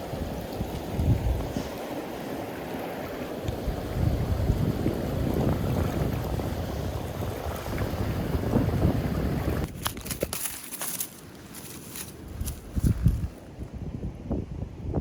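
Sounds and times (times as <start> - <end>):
wind buffeting microphone: 0.0 - 10.3, 12.2 - 15.0.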